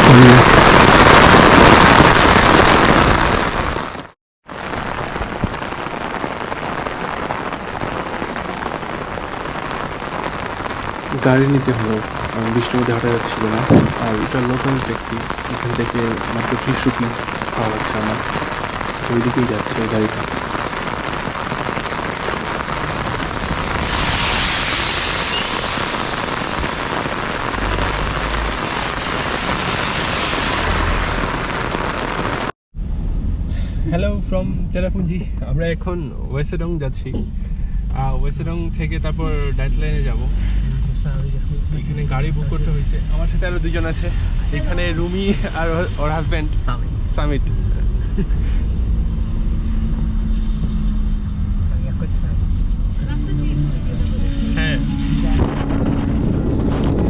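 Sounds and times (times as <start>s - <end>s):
heavy rain pouring: 0.0s - 32.6s, 37.4s - 57.0s
low rumbles: 4.5s - 57.0s.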